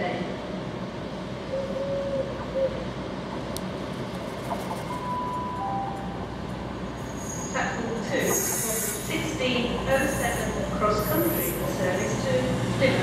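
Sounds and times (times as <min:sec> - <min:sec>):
diesel train engines running: 0:00.0 - 0:13.0
train wheels on rails: 0:02.4 - 0:13.0.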